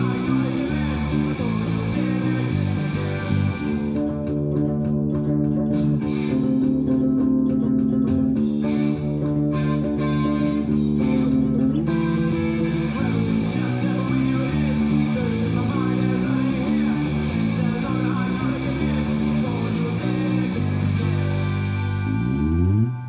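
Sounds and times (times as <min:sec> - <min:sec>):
electric bass guitar: 0:00.0 - 0:23.0
punk rock recording: 0:00.0 - 0:23.0.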